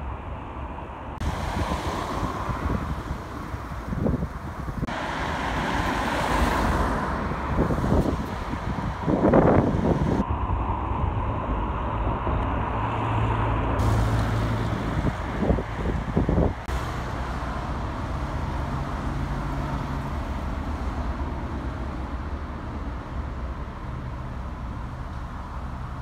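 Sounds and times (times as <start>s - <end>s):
cars driving past: 0.0s - 26.0s
wind gusts on microphone: 0.0s - 26.0s.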